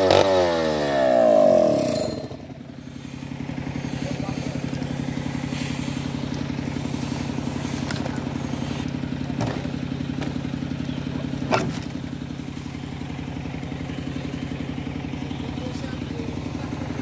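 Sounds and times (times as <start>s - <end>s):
chainsaw idling: 0.0s - 17.0s.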